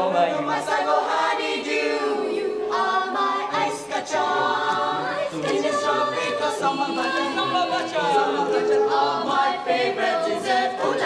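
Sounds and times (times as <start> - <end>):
mixed choir singing a cappella: 0.0 - 11.0.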